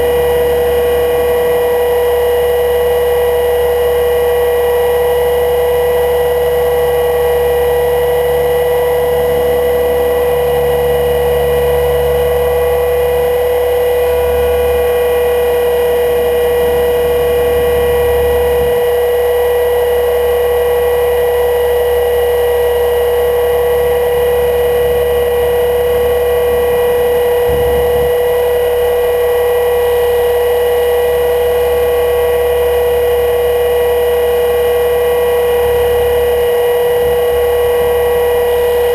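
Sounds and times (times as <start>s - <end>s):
electric motor and gears whining: 0.0s - 38.9s.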